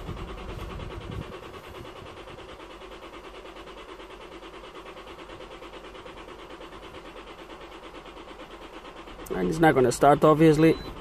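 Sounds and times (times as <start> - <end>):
car engine cranking without starting: 0.0 - 11.0.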